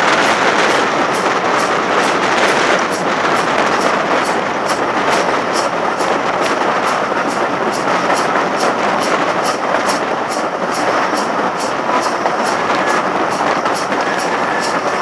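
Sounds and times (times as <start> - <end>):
rhythmic wheel ticks: 0.0 - 15.0
train wheel and wind rush: 0.0 - 15.0.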